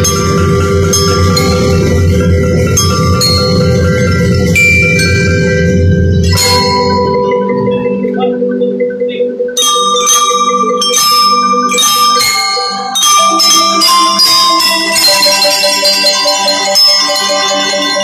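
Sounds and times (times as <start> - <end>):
bell lyres playing melody: 0.0 - 18.0.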